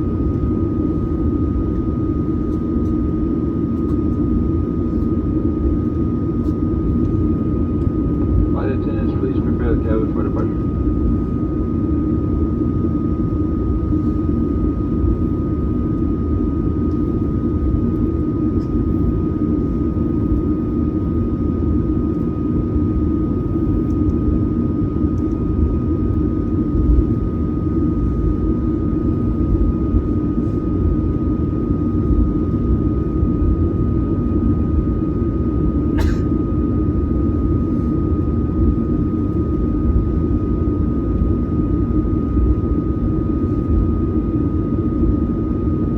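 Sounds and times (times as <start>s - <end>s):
jet engine cabin rumble: 0.0s - 45.9s.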